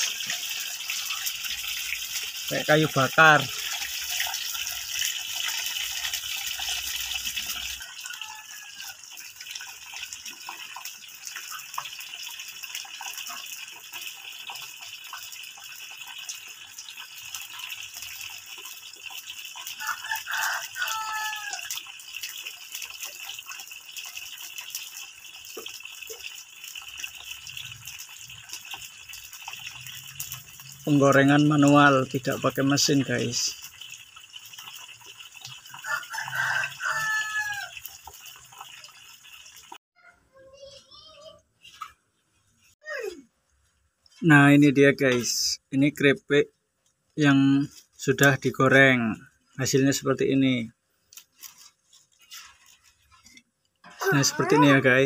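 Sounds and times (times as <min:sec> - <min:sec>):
banana slices deep-frying in oil: 0:00.0 - 0:55.0.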